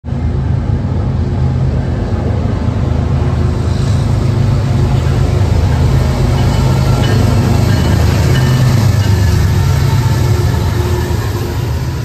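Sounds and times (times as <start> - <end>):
diesel locomotives rumbling past: 0.0 - 12.0.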